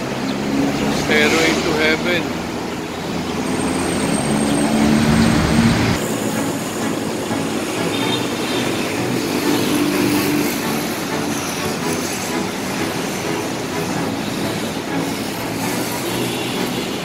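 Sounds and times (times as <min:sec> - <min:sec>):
light-rail train on elevated track: 0:00.0 - 0:17.0
street traffic rumble: 0:00.0 - 0:17.0.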